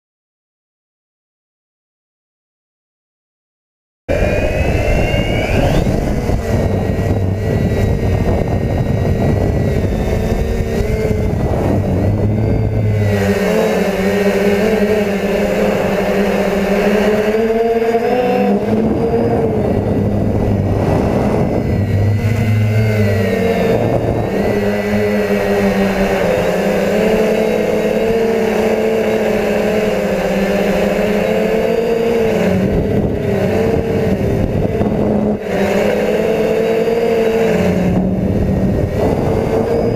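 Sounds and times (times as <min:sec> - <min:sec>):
drone motors buzzing: 0:04.1 - 0:39.9.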